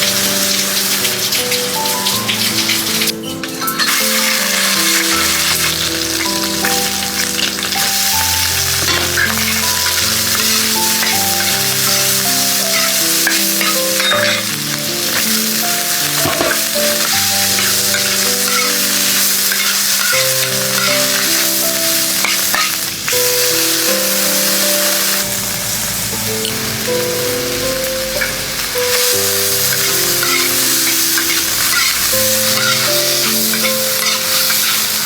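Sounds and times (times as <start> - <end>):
stirring scrape and clatter: 0.0 - 22.9, 29.0 - 35.0
food sizzling in hot oil: 0.0 - 35.0
slow melodic background music: 0.0 - 35.0.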